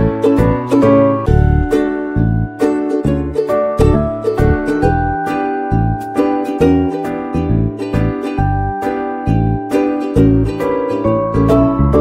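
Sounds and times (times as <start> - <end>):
plucked melody over bass line: 0.0 - 12.0.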